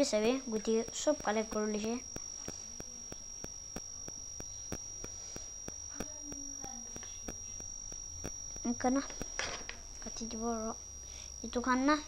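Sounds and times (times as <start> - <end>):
cricket trilling: 0.0 - 12.0
faint ticks: 0.0 - 12.0.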